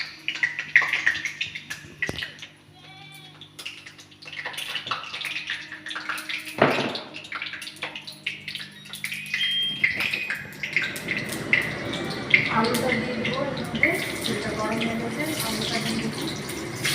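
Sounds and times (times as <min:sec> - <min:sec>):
oil sizzling and crackling: 0:00.0 - 0:16.9.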